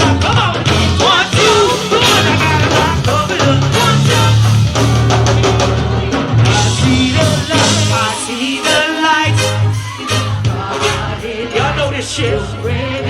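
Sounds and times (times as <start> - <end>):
person singing: 0.0 - 5.0, 6.4 - 13.0
drum kit: 0.0 - 11.9
live band playing: 0.0 - 13.0
steady bass line: 0.0 - 13.0.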